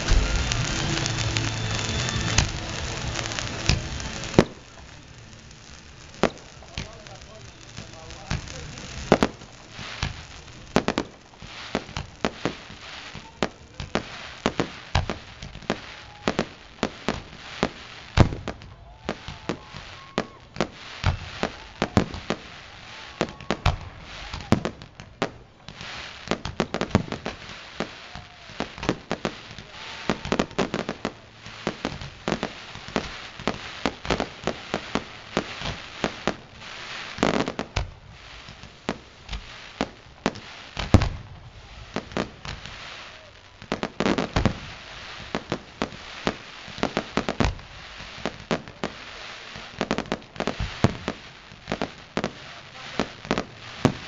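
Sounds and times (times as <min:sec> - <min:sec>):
fireworks bangs and pops: 0:00.0 - 0:54.0
loud fireworks booms: 0:00.0 - 0:54.0.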